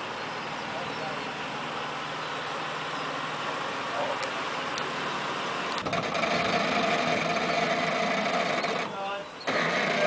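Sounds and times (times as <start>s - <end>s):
pickup truck engine running: 0.0s - 10.0s
whining machine hum: 0.0s - 10.0s.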